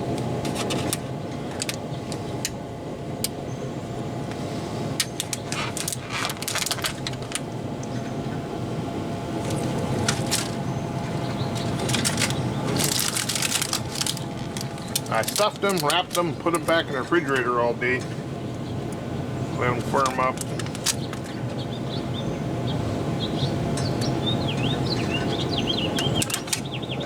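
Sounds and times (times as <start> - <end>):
smoker fan humming: 0.0 - 27.0.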